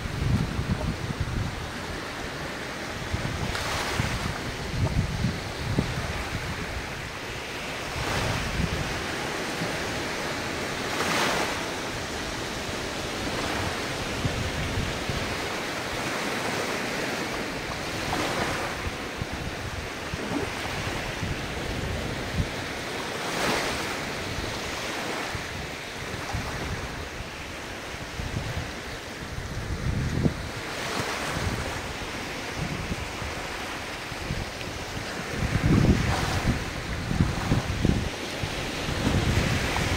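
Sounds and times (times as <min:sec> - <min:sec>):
ocean waves on the shore: 0:00.0 - 0:39.9
wind buffeting microphone: 0:00.0 - 0:39.9.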